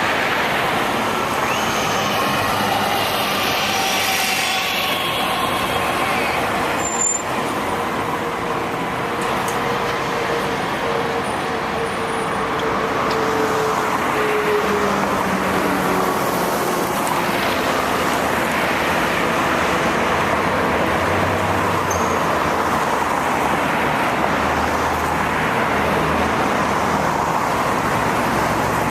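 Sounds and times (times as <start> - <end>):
city road traffic: 0.0 - 28.9.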